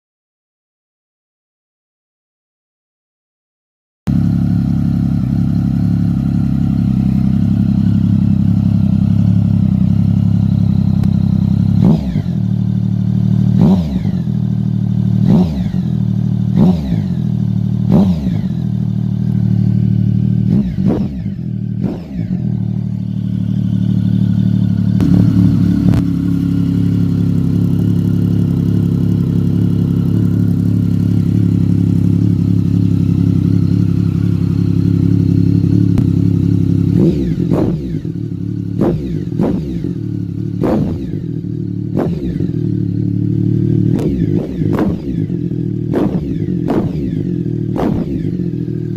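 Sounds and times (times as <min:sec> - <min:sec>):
motorcycle engine idling: 0:04.1 - 0:48.9
motorcycle engine revving: 0:04.1 - 0:48.9.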